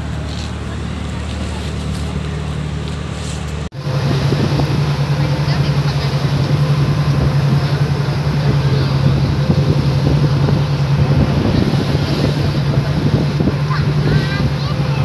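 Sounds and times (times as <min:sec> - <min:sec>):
boat engine droning: 0:00.0 - 0:15.0
water splashing along hull: 0:00.0 - 0:15.0.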